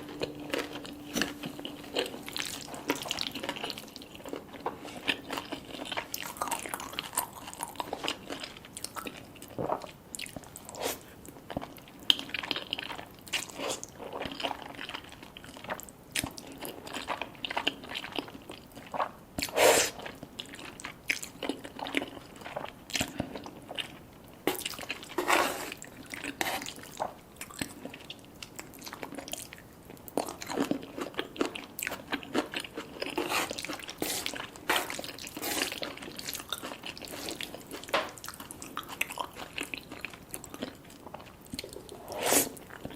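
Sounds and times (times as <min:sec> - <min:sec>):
people chewing crunchy food: 0:00.0 - 0:42.9.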